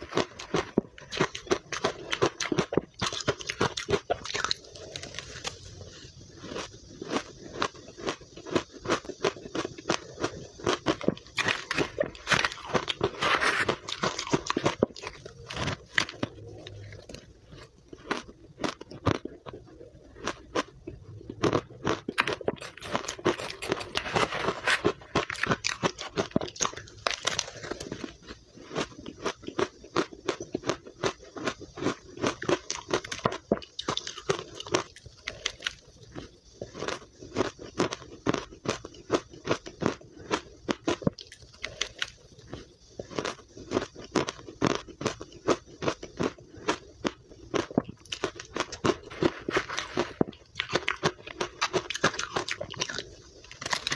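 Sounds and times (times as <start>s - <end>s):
ice crunching while chewed: 0.0s - 53.9s.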